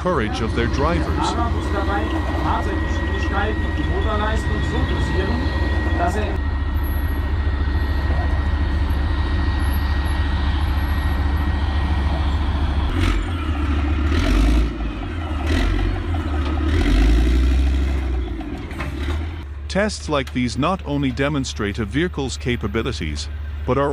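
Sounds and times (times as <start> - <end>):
heavy truck engine revving: 0.0 - 23.9.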